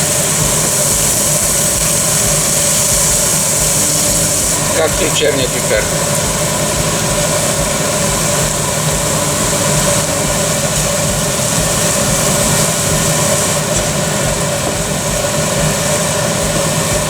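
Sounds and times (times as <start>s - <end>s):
steady mechanical hum: 0.0s - 17.0s
steady tones: 0.0s - 17.0s.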